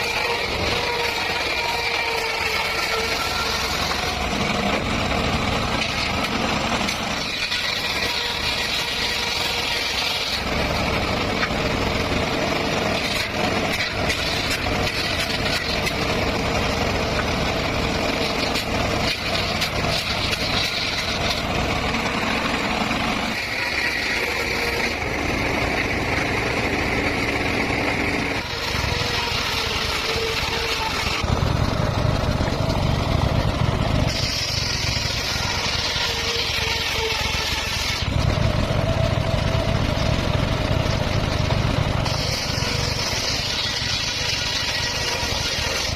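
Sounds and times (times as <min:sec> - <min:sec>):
circular saw cutting bamboo: 0:00.0 - 0:45.9.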